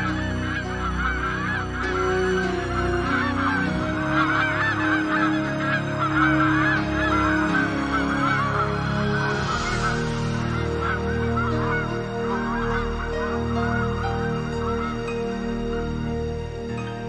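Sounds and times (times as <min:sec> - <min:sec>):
geese honking: 0:00.0 - 0:17.0
soft sustained music chords: 0:00.0 - 0:17.0.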